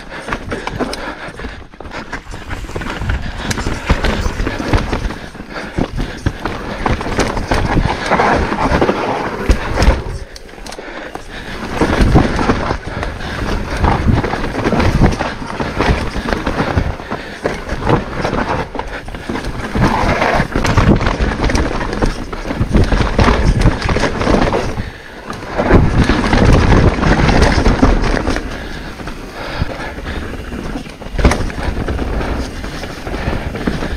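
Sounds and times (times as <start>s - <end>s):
bike knocks and rattles: 0.0s - 33.9s
bike tyres rolling over dirt: 0.0s - 33.9s
wind rumble on microphone: 2.2s - 10.4s, 11.3s - 33.9s.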